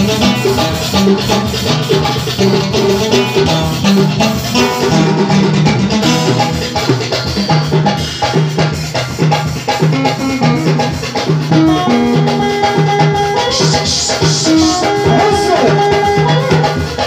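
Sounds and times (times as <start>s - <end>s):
drum kit beat: 0.0s - 17.0s
electric guitar melody: 0.0s - 17.0s
hand percussion: 0.0s - 17.0s.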